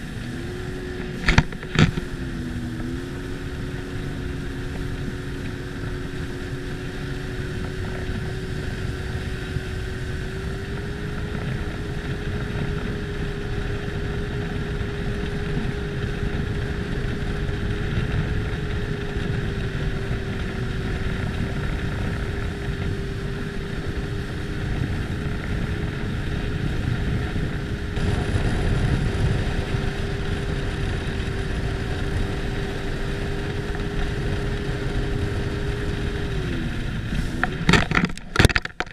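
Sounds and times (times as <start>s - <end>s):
watercraft engine running: 0.0s - 38.9s
wind noise on microphone: 0.0s - 38.9s.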